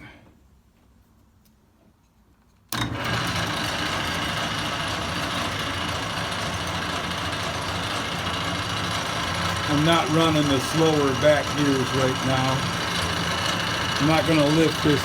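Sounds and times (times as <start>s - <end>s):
lathe running with mechanical hum: 2.8s - 15.0s.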